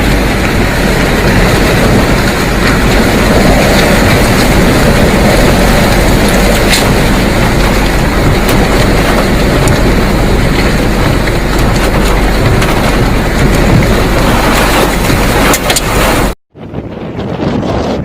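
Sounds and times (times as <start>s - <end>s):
strong storm wind buffeting microphone: 0.0s - 18.0s.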